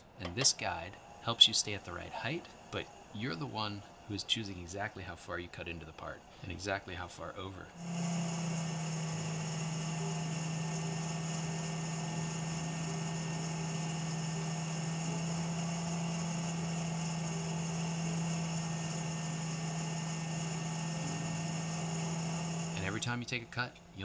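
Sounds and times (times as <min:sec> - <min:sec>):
lathe hiss: 0:00.0 - 0:24.0
lathe motor humming: 0:00.0 - 0:24.0.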